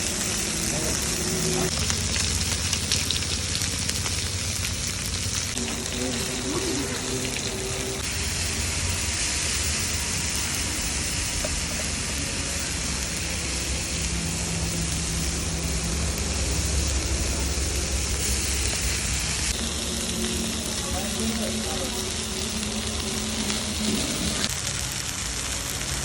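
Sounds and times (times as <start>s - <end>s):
low rumble: 0.0s - 24.5s
oil sizzling as fish fries: 0.0s - 26.0s.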